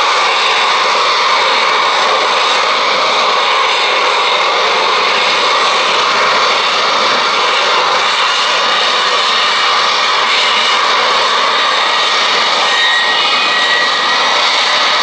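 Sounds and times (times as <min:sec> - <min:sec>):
jet engine rushing roar: 0:00.0 - 0:15.0.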